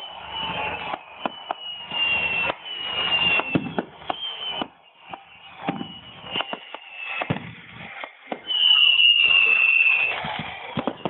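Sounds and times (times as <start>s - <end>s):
firework bangs and cracks: 0.0s - 11.0s
firework whistles: 0.0s - 11.0s.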